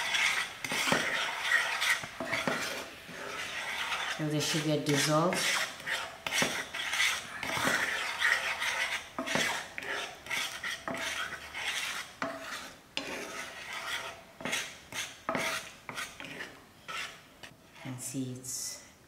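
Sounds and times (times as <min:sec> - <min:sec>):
wooden spoon scraping frying pan: 0:00.0 - 0:18.1.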